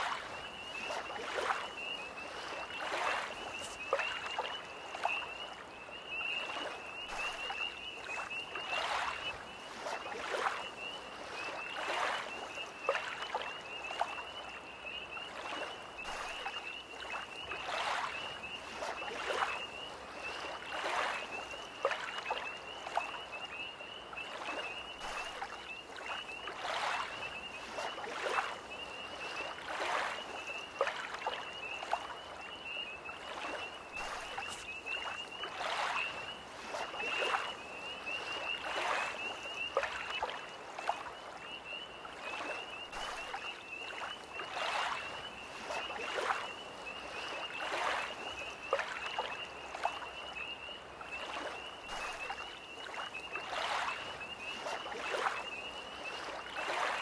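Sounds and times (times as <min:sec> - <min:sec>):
tree frogs trilling: 0:00.0 - 0:57.0
waves lapping at shore: 0:00.0 - 0:57.0.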